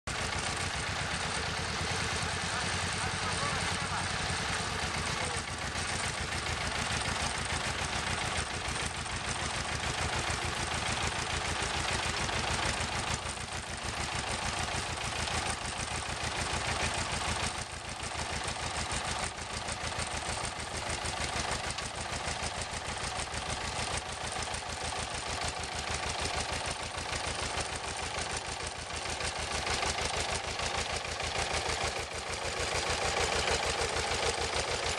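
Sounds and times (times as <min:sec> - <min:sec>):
tractor engine chugging: 0:00.1 - 0:34.9.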